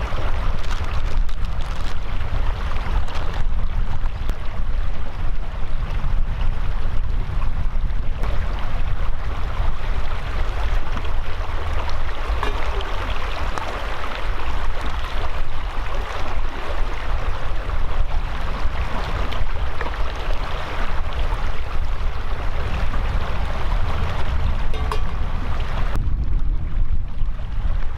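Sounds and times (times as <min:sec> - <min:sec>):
stream rushing over rocks: 0:00.0 - 0:06.4, 0:07.3 - 0:26.0
wind rumble on microphone: 0:00.0 - 0:27.9.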